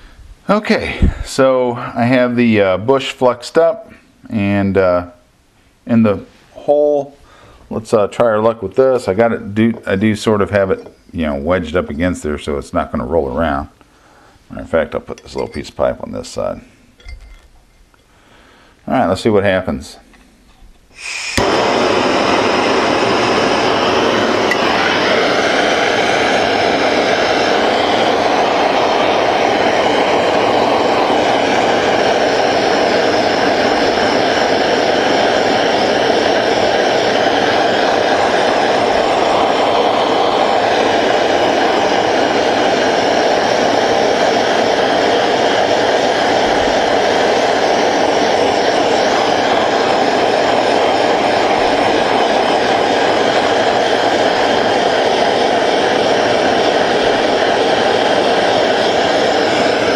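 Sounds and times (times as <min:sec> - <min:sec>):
gas torch burning: 0:00.0 - 0:05.2, 0:05.8 - 0:59.9.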